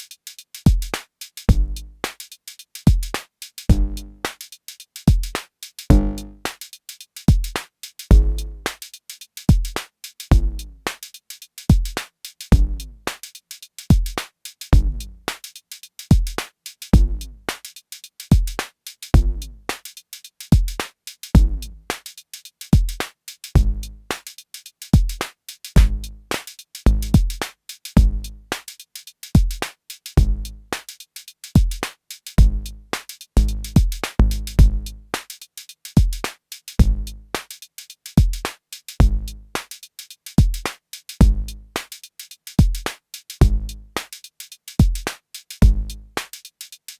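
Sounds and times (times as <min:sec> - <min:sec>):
drum machine beat: 0:00.0 - 0:46.9.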